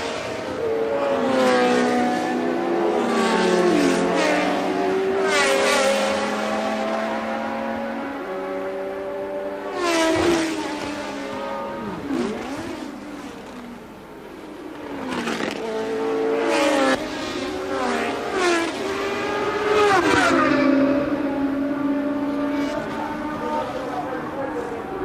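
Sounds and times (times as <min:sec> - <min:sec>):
race cars passing at high revs: 0:00.0 - 0:25.0.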